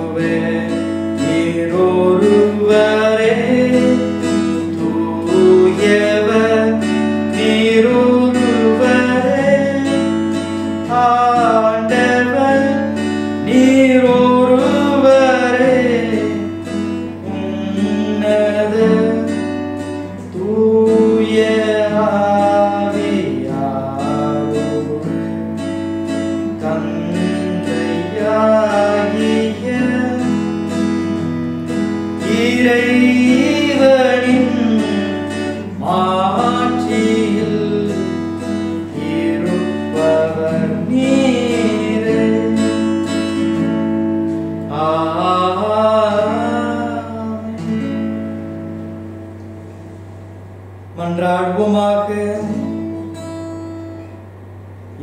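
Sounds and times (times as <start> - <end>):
person singing a hymn: 0.0 - 25.5, 26.3 - 31.2, 32.1 - 43.7, 44.6 - 48.1
steady low hum: 0.0 - 55.0
strummed acoustic guitar: 0.0 - 55.0.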